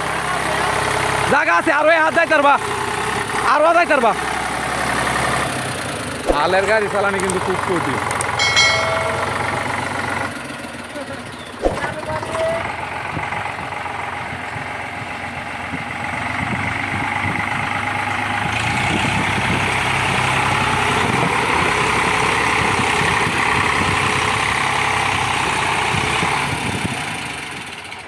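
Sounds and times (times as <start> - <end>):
tractor diesel engine running hard: 0.0 - 28.0.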